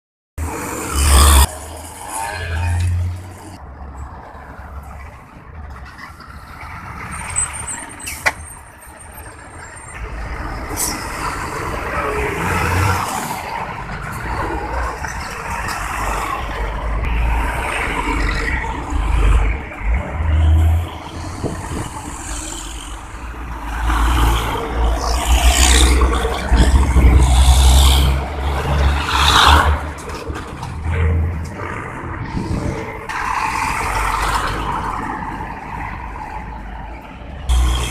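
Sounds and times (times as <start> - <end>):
heavy truck engines rumbling: 0.4 - 37.9.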